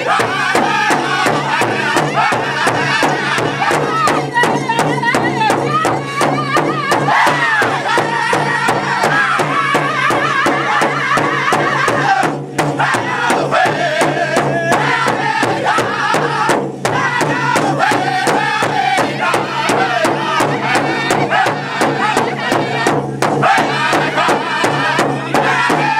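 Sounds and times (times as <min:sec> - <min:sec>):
group singing in high voices: 0:00.0 - 0:25.9
large hand drum beat: 0:00.0 - 0:25.9.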